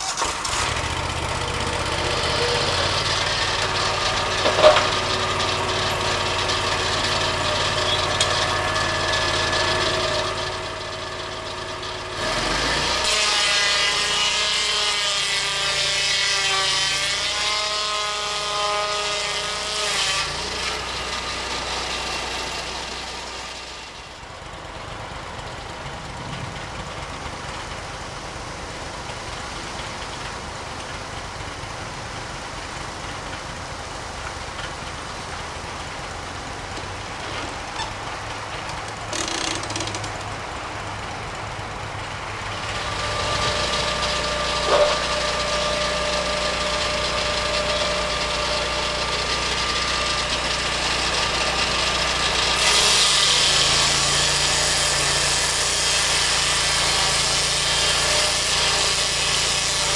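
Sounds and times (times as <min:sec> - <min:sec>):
circular saw cutting log: 0:00.0 - 0:25.3, 0:27.3 - 0:41.1, 0:42.0 - 0:59.9
sawmill engine running: 0:00.0 - 0:59.9.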